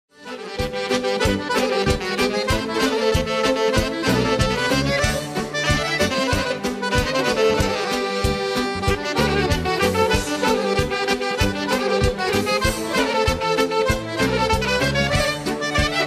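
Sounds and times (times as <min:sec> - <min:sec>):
accordion: 0:00.1 - 0:16.0
steady drum beat: 0:01.3 - 0:16.0.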